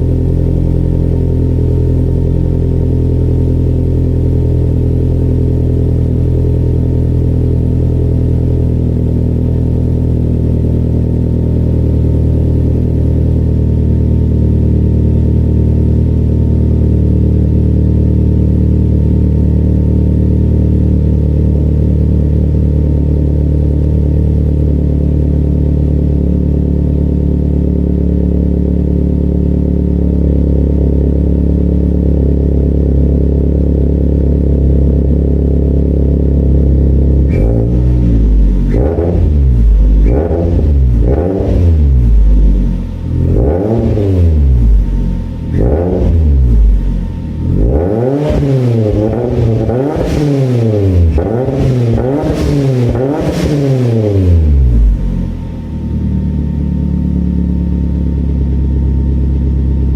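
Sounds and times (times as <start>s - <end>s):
car engine exhaust drone: 0.0s - 59.9s.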